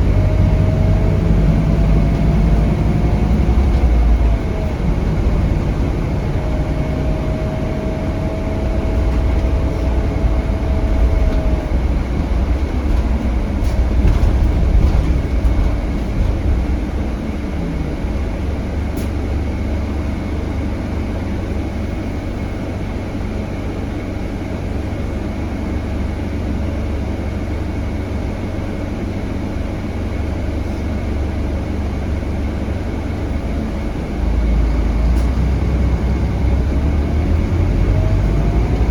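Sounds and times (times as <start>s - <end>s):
bus diesel engine rumble: 0.0s - 38.9s
engine whine: 0.0s - 38.9s.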